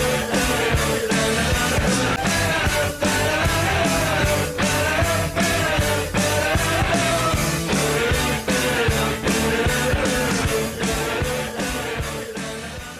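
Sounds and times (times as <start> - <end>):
electric guitar rock music: 0.0 - 12.9
steady drum beat: 0.0 - 12.9.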